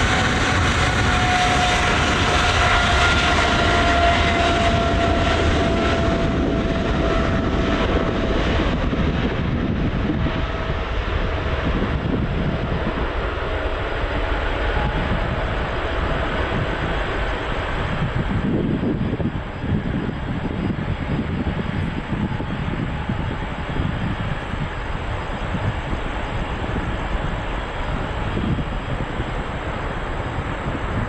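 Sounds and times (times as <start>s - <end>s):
jet engines rumbling and whining: 0.0s - 31.0s.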